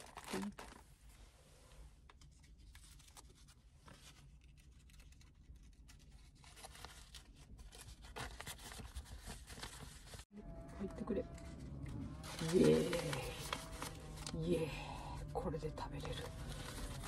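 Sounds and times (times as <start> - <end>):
paper wrapper rustling: 0.0 - 0.9, 2.2 - 17.0.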